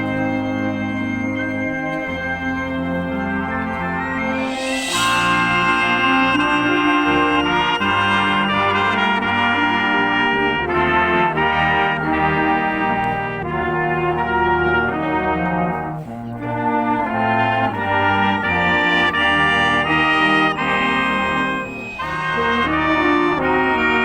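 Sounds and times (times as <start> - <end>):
brass band playing held chords: 0.0 - 24.0.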